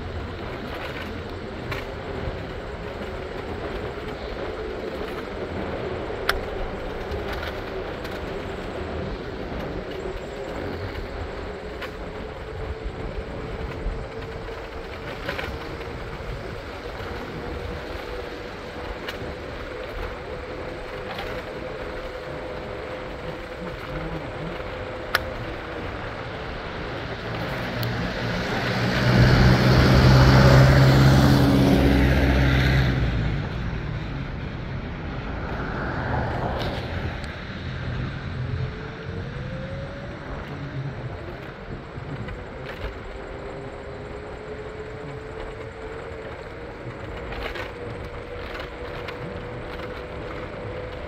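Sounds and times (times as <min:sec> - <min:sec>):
train car rumble: 0:00.0 - 0:51.0.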